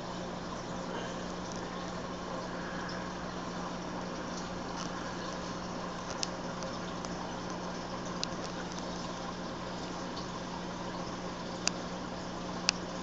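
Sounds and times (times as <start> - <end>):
circulating water: 0.0 - 13.0
low equipment hum: 0.0 - 13.0.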